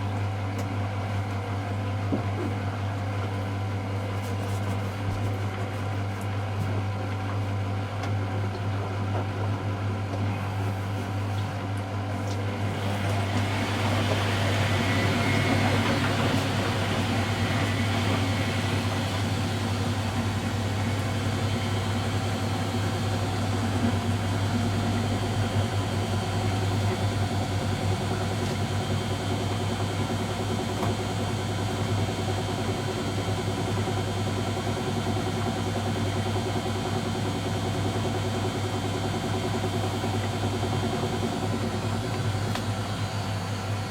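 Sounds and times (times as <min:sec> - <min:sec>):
washing machine motor hum: 0:00.0 - 0:43.9
washing machine drum and water: 0:04.9 - 0:43.9.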